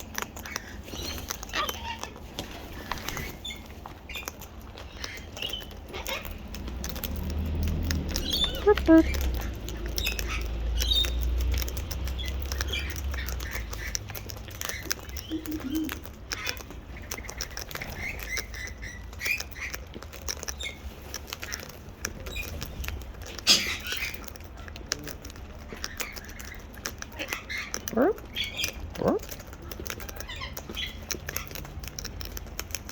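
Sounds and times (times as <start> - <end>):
parrots cracking seed: 0.0 - 32.9
parrot chirps and squawks: 0.2 - 6.6, 8.0 - 11.2, 12.0 - 19.9, 21.4 - 24.8, 25.6 - 31.8.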